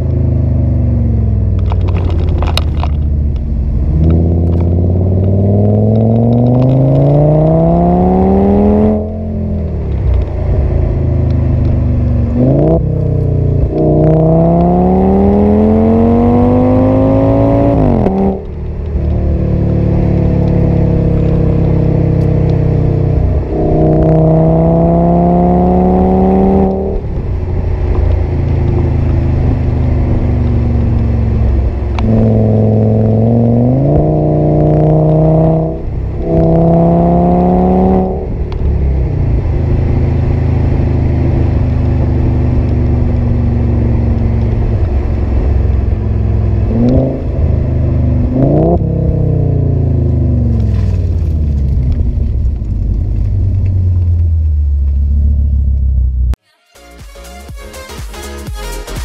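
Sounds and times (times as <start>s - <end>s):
car engine revving inside cabin: 0.0s - 56.4s.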